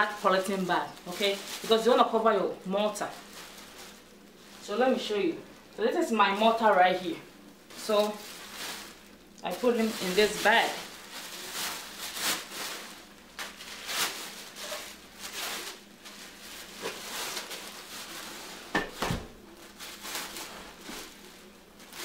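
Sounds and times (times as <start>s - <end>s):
plastic bag rustling: 0.0s - 22.0s.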